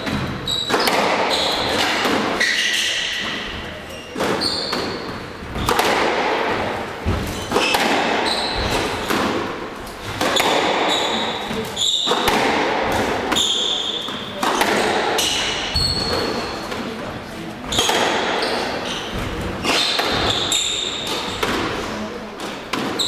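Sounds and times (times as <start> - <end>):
sneaker squeaks on wooden floor: 0.0 - 5.8, 6.5 - 9.1, 10.0 - 16.8, 17.6 - 21.8, 22.8 - 23.0
squash ball smacking rackets and walls: 0.0 - 23.0.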